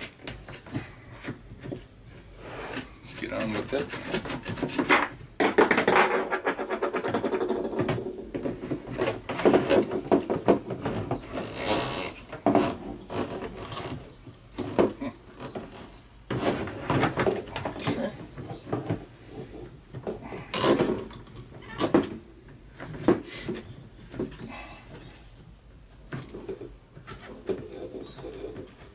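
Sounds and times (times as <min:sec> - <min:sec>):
knocks and scrapes: 0:00.0 - 0:25.4, 0:26.0 - 0:28.9.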